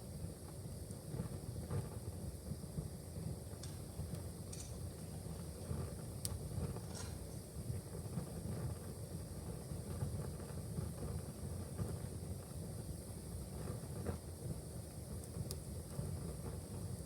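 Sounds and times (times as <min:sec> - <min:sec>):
faint fire crackles: 0:00.0 - 0:17.0
low rumble of fire flames: 0:00.0 - 0:17.0.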